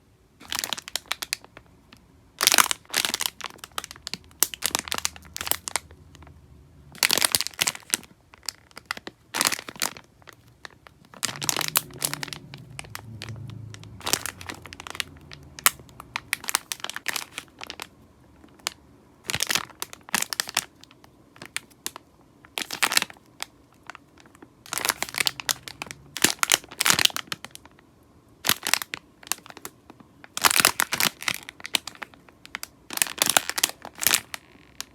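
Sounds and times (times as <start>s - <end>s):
packaging crackling: 0.4s - 1.6s, 2.4s - 6.3s, 6.9s - 27.8s, 28.4s - 34.9s.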